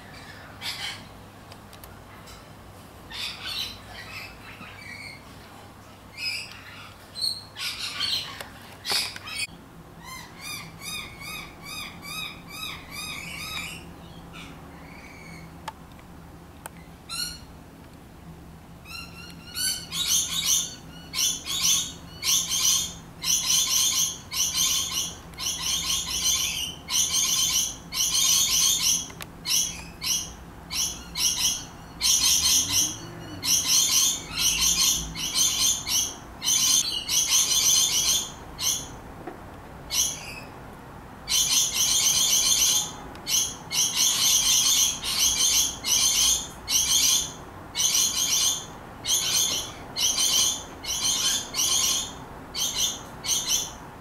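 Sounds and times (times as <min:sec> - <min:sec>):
parrots yelping: 0:00.0 - 0:01.1, 0:03.1 - 0:05.2, 0:06.2 - 0:15.5, 0:18.8 - 0:39.0, 0:39.9 - 0:40.5, 0:41.2 - 0:53.8.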